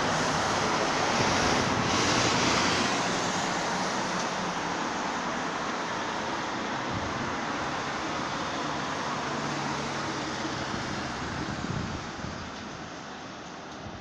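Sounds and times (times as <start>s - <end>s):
cars driving past: 0.0s - 12.5s.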